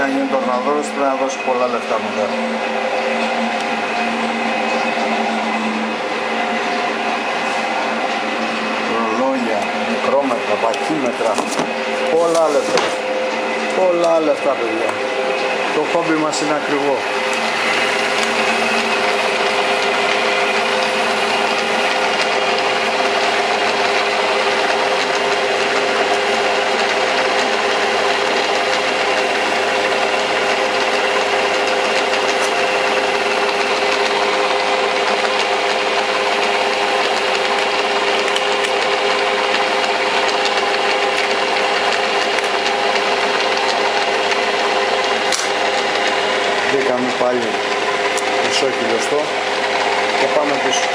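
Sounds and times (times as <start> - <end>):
lathe motor humming: 0.0 - 50.9.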